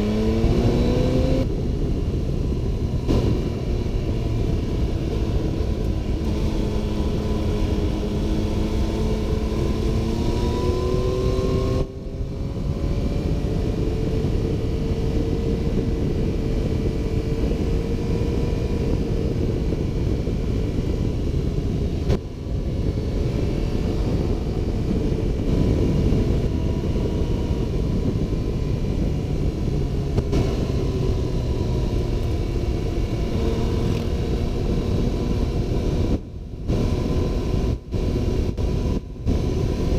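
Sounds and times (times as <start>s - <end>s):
motorcycle engine running: 0.0s - 39.9s
wind rumble: 0.0s - 39.9s.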